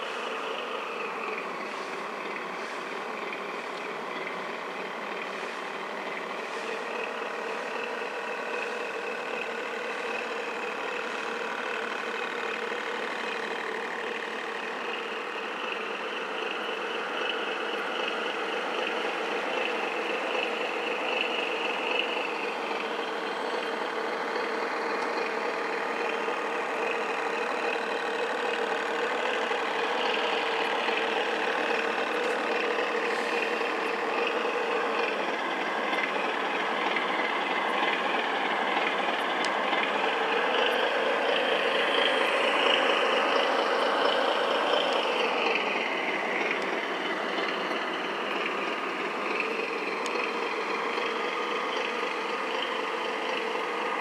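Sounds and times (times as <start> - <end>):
model boat engine drone: 0.0 - 54.0.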